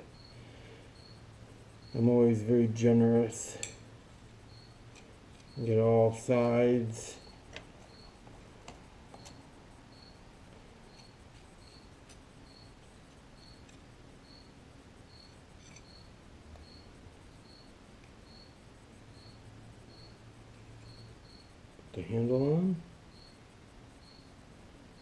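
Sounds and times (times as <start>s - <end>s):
cricket chirping: 0.0s - 25.0s
low electrical hum: 0.0s - 25.0s.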